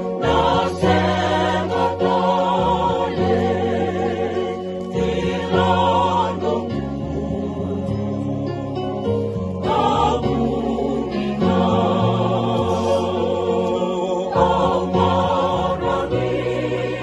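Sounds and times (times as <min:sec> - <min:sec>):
vocal group singing in harmony: 0:00.0 - 0:17.0.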